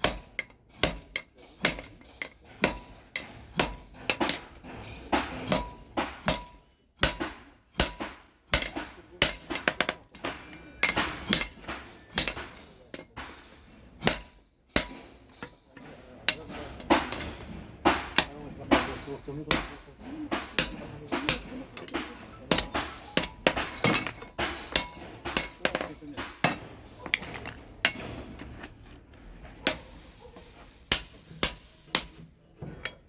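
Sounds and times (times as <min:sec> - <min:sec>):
hammer striking steel on anvil: 0:00.0 - 0:28.7, 0:29.6 - 0:33.0.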